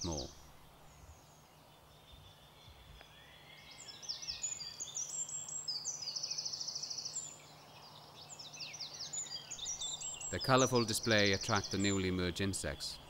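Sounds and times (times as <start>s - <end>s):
faint woodland background: 0.0s - 13.0s
songbird singing: 0.0s - 13.0s.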